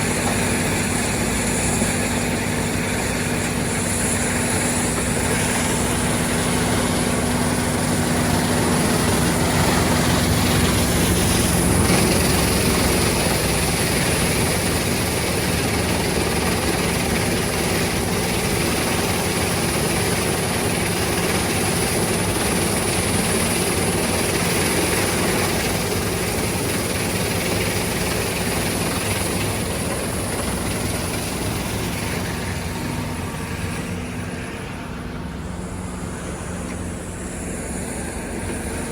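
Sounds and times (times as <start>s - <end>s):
large machine engine running: 0.0s - 38.9s.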